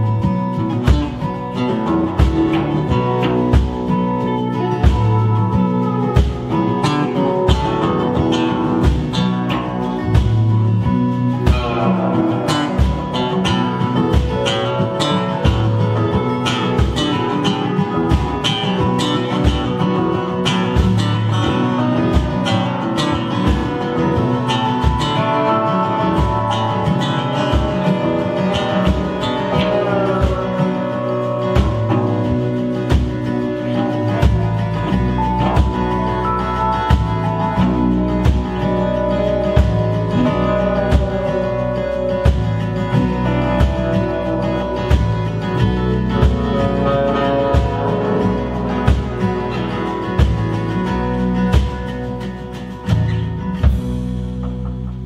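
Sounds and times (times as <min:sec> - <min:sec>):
folk-rock band playing: 0:00.0 - 0:55.0
lap slide guitar: 0:00.0 - 0:55.0
steady drum beat: 0:00.0 - 0:55.0.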